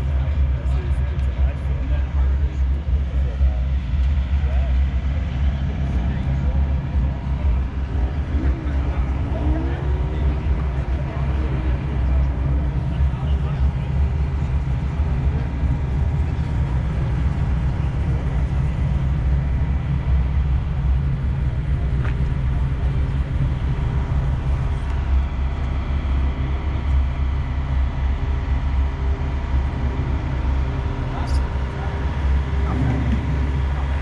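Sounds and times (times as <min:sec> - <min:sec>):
low rumble: 0:00.0 - 0:34.0.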